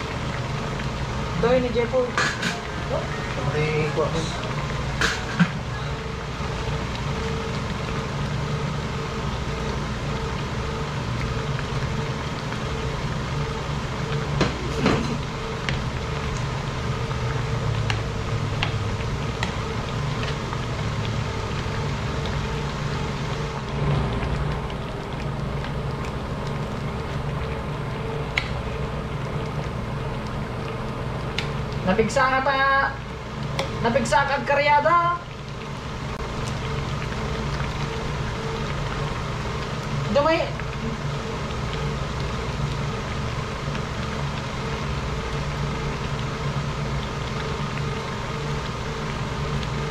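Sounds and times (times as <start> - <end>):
machine hum and rumble: 0.0 - 49.9.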